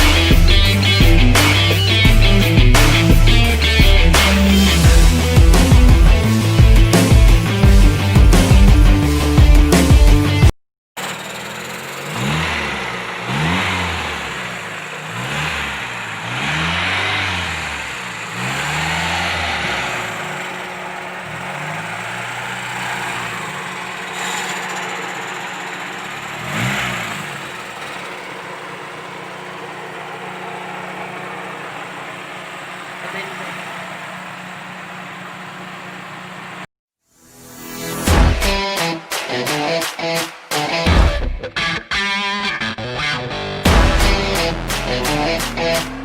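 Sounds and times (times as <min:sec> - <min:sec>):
car engine revving and idling: 0:00.0 - 0:36.7, 0:41.6 - 0:46.0.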